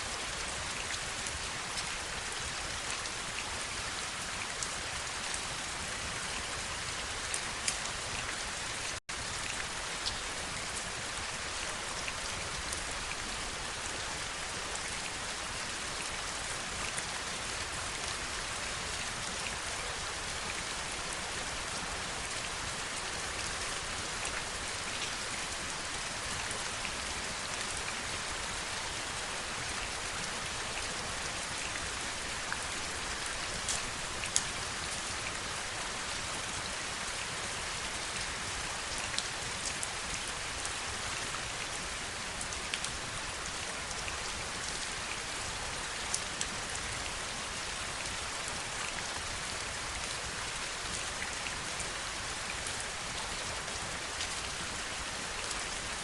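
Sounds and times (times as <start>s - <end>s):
heavy rainfall: 0.0s - 56.0s.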